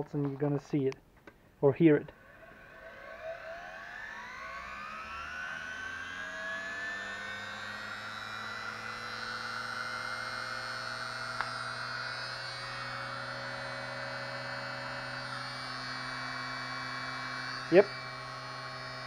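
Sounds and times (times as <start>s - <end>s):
electric motor whine: 2.1s - 19.0s.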